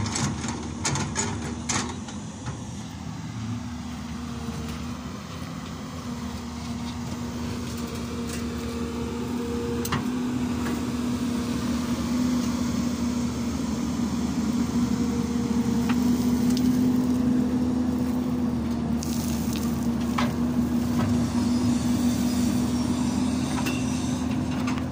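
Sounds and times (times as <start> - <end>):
excavator diesel engine humming: 0.0 - 24.9.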